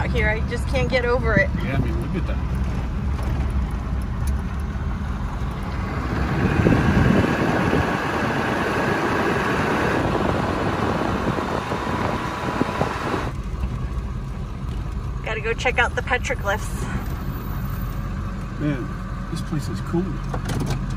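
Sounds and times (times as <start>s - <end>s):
truck engine and road rumble: 0.0s - 20.9s.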